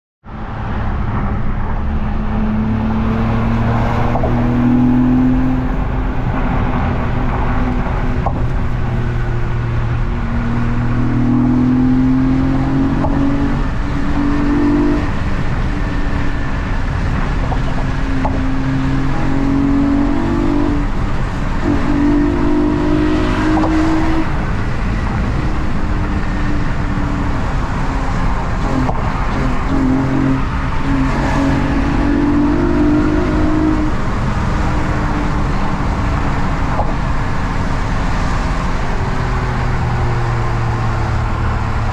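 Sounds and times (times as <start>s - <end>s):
car engines running: 0.3s - 41.9s.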